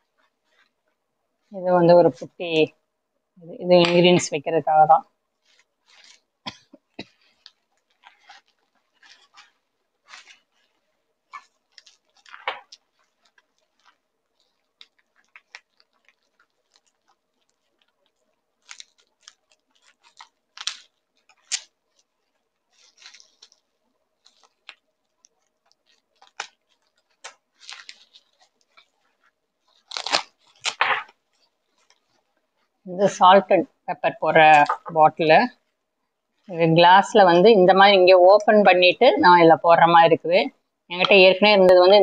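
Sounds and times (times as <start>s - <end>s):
bubble wrap crinkling: 0.0s - 2.7s, 3.8s - 42.0s.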